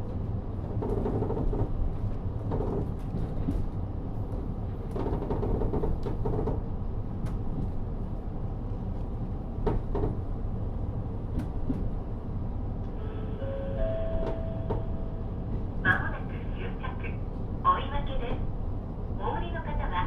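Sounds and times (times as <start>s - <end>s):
diesel railcar rumble: 0.0s - 20.0s.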